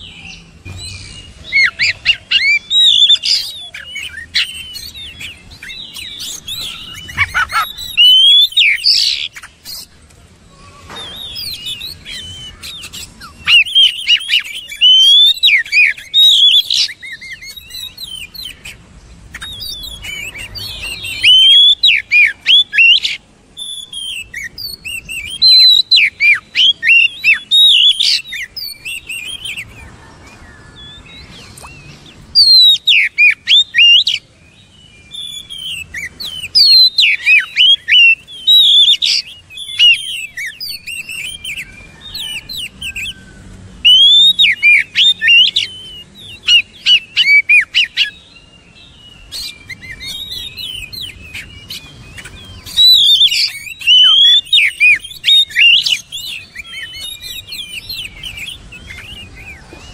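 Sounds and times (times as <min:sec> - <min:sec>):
bird singing whistles and chirps: 0:00.0 - 0:10.0, 0:10.6 - 0:59.9.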